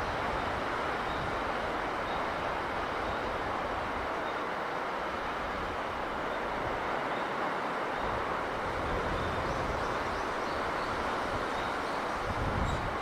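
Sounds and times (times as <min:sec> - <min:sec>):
sea breeze: 0:00.0 - 0:13.0.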